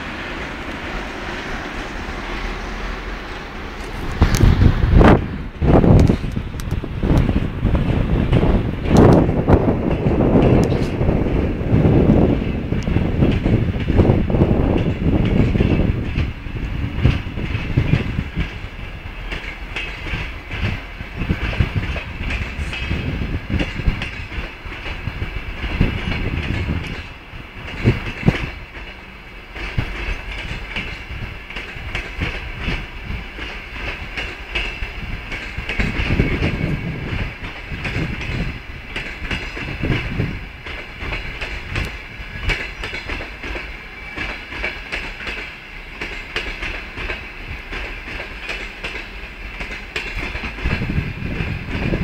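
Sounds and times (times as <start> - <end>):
train rumble: 0.0 - 52.0
train wheels clicking over rail joints: 0.0 - 52.0.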